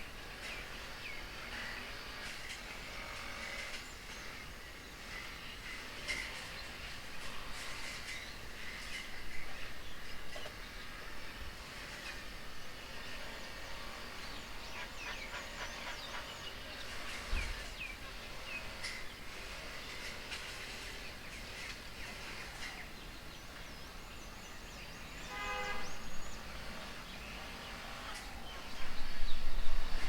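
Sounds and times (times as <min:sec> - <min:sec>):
outdoor background noise: 0:00.0 - 0:30.0
birds chirping: 0:03.7 - 0:30.0.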